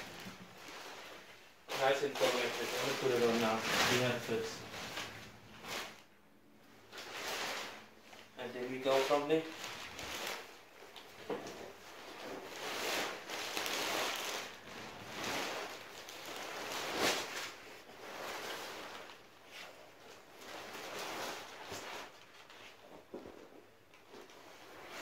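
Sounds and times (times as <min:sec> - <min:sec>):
mattress rustling and shuffling: 0:00.0 - 0:06.1, 0:06.7 - 0:25.0.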